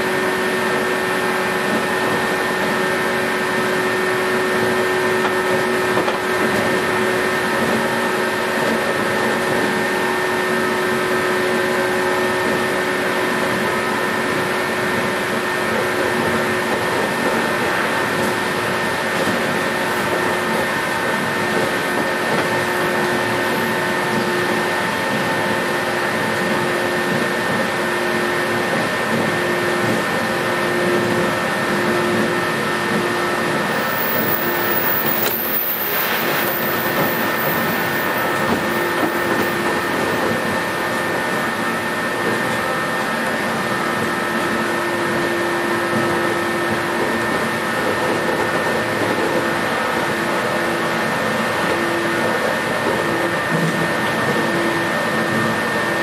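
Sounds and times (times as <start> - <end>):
train motor whine: 0.0 - 56.0
train rumbling on track: 0.0 - 56.0.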